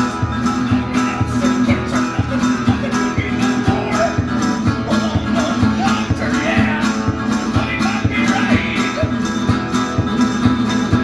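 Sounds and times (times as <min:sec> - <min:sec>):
resonator guitar playing: 0:00.0 - 0:11.0.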